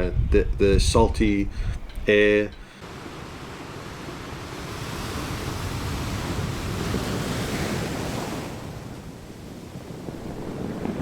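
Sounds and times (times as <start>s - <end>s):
wind rumbling on microphone: 0.0s - 11.0s
ocean surf breaking: 2.0s - 11.0s.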